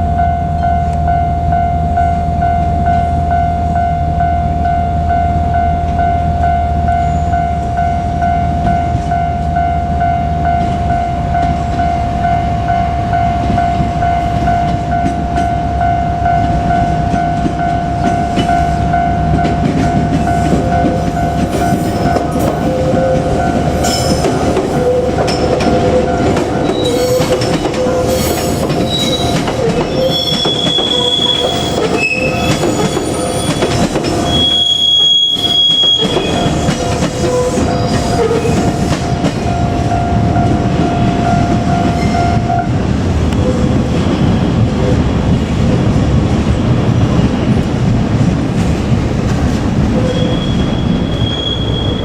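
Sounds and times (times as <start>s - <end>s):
level crossing warning bell: 0.0s - 44.5s
train wheels rumbling on rails: 0.0s - 52.0s.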